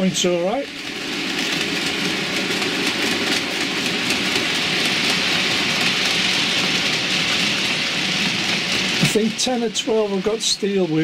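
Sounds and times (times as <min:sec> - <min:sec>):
model train wheels rattling on rails: 0:00.0 - 0:11.0.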